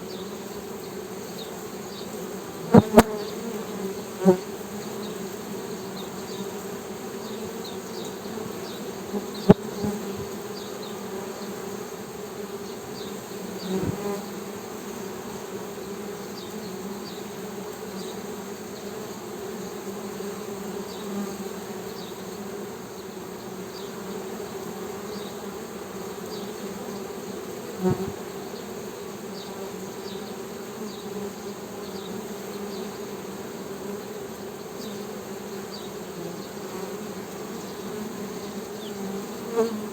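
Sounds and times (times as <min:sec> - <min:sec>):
honey bees humming: 0:00.0 - 0:39.9.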